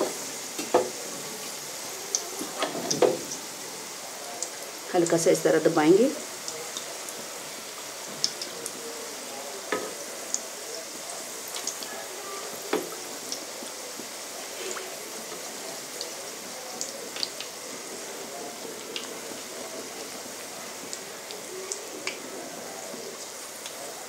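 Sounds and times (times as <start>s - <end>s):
patties sizzling in hot oil: 0.0s - 24.0s.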